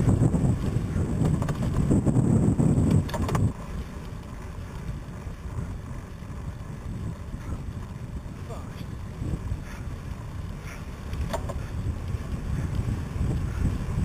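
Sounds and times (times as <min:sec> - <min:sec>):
tyre rumble on tarmac: 0:00.0 - 0:14.0
wind buffeting: 0:00.0 - 0:14.0.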